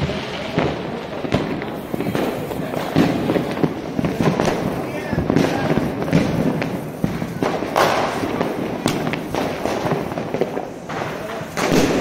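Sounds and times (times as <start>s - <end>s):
firecrackers bangs and crackles: 0.0s - 12.0s.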